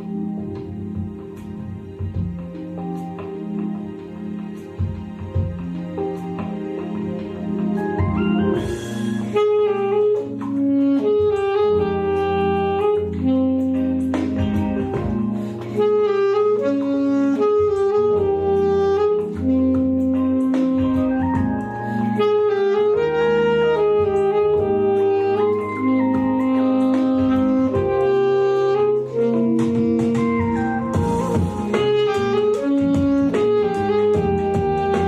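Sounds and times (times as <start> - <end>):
backing track chords and bass: 0.0 - 35.0
saxophone melody: 0.0 - 35.0.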